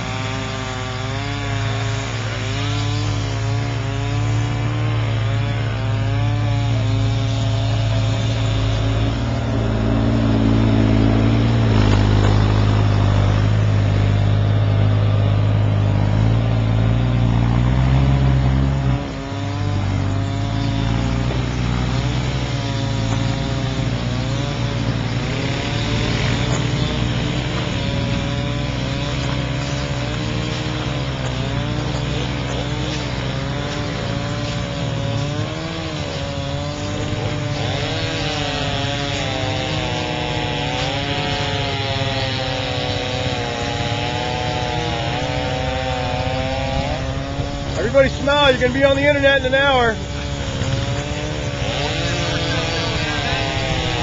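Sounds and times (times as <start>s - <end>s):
small gasoline engine running: 0.0s - 54.0s.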